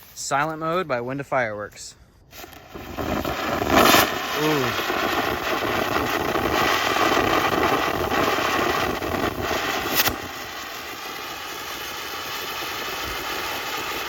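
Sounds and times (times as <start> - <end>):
firework fountain hissing: 2.3 - 14.0
sharp firework crack: 2.3 - 14.0.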